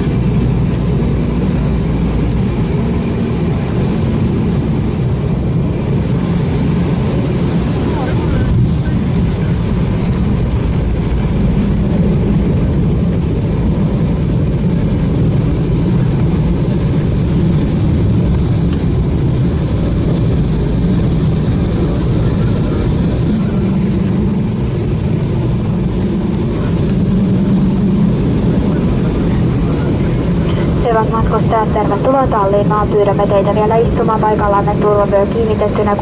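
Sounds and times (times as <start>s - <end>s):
jet engine and wheel rumble: 0.0s - 36.0s.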